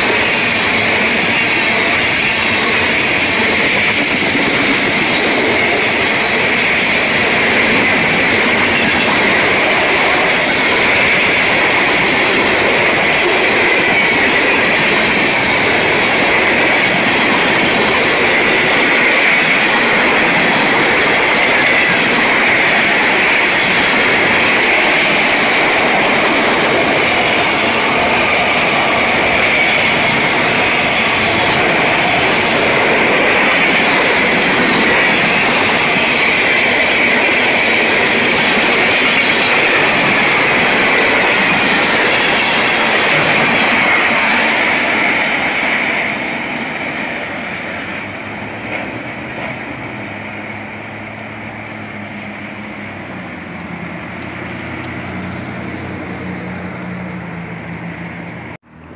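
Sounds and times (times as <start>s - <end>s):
high whine: 0.0s - 58.9s
train wheels rattling on rails: 0.0s - 58.9s.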